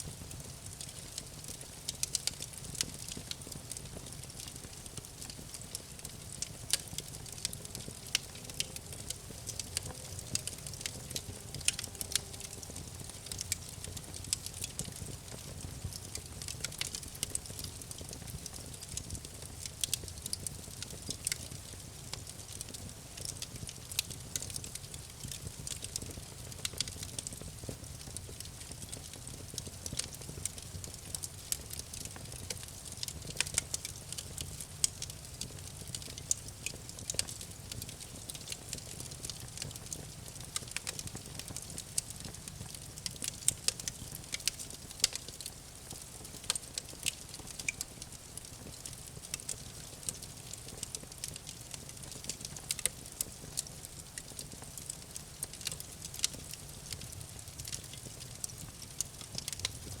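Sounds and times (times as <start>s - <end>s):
campfire crackling and popping: 0.0s - 60.0s
low rumble of flames: 0.0s - 60.0s.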